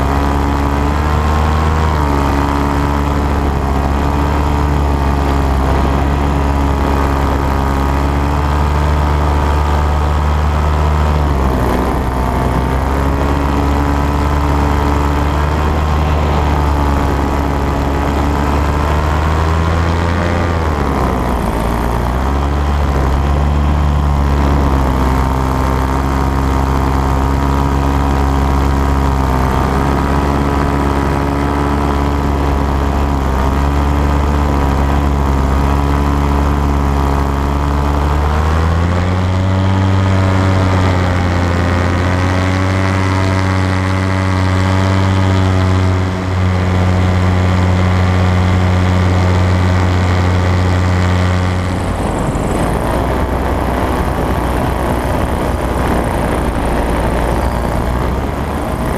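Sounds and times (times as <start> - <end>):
paramotor engine and propeller: 0.0 - 58.9.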